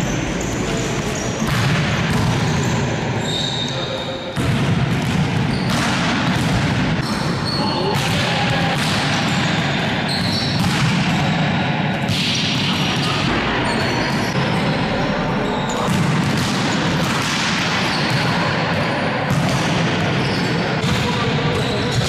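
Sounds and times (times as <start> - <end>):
sports hall din: 0.0 - 22.0
volleyballs hit and bouncing: 0.0 - 22.0.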